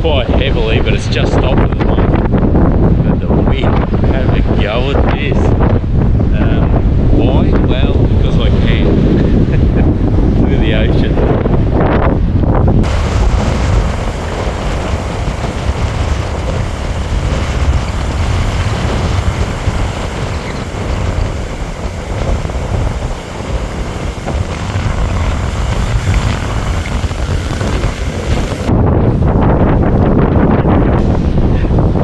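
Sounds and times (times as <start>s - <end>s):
heavy surf: 0.0s - 29.9s, 31.0s - 32.0s
wind buffeting microphone: 0.0s - 32.0s.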